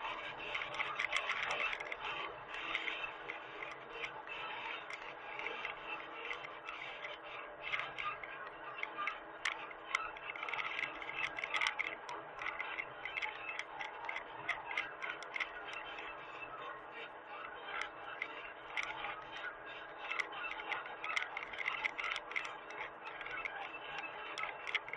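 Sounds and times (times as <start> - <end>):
faint mechanical hum: 0.0 - 24.9
rapid clicking and ticking: 0.0 - 24.9.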